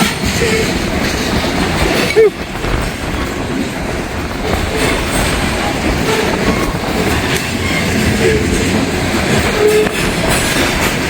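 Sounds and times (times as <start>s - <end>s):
freight train rolling past: 0.0s - 11.0s
wind buffeting microphone: 0.0s - 11.0s.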